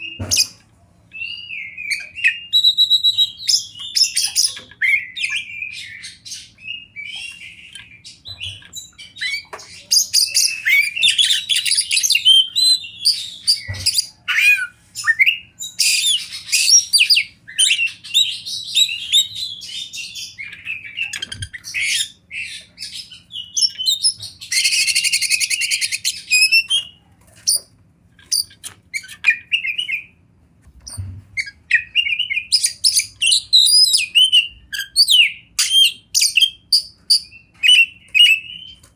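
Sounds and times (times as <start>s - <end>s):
bird singing whistles and trills: 0.0s - 27.0s, 28.3s - 30.2s, 30.9s - 38.9s.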